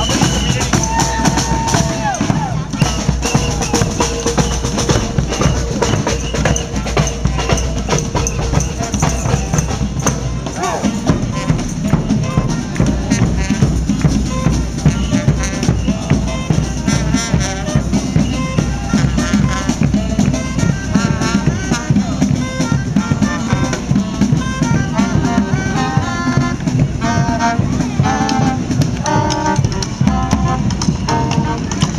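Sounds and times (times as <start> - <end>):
brass band with saxophones: 0.0 - 31.9
steady drum beat: 0.0 - 31.9.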